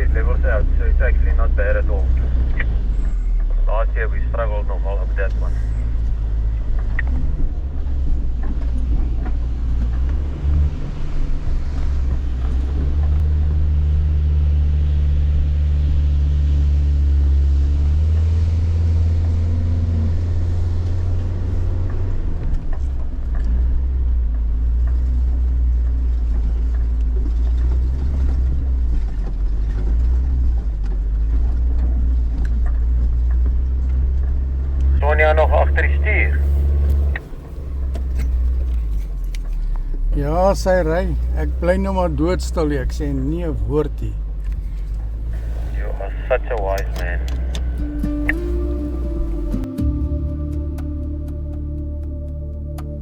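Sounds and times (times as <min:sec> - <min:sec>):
vehicle engine droning under load: 0:00.0 - 0:53.0.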